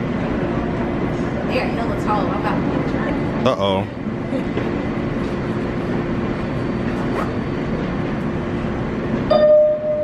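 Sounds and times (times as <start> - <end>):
subway train rumble and hum: 0.0 - 10.0.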